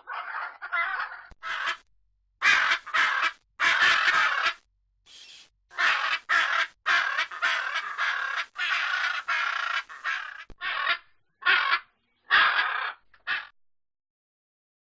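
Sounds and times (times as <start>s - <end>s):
macaw squawking: 0.0s - 1.8s, 2.4s - 13.5s.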